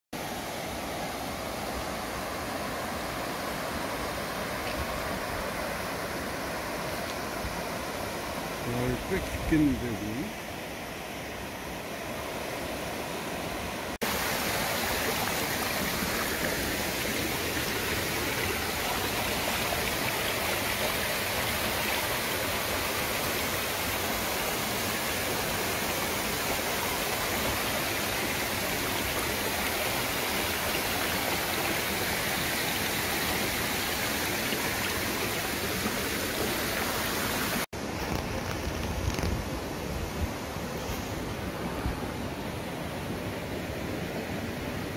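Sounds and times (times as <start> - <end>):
stream rushing over boulders: 0.2 - 44.9.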